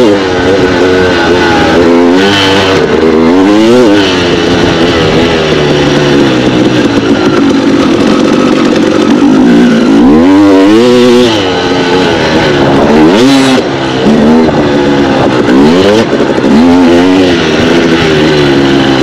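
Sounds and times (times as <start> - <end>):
two-stroke motorcycle engine revving: 0.0 - 19.0.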